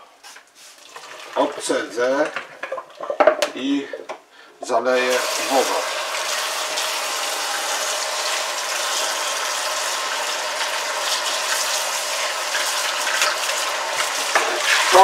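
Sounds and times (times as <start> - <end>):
tap water running into pot: 0.8 - 3.3, 5.0 - 15.0.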